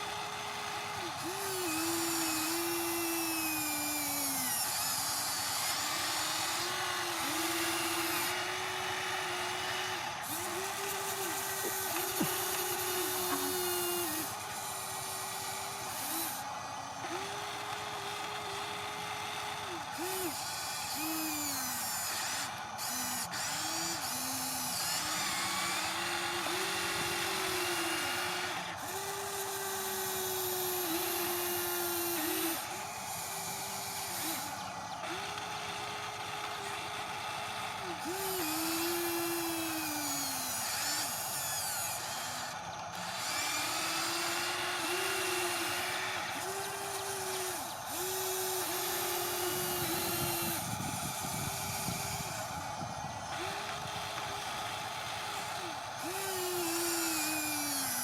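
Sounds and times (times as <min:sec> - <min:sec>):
small electric motors whining: 0:00.0 - 0:58.0.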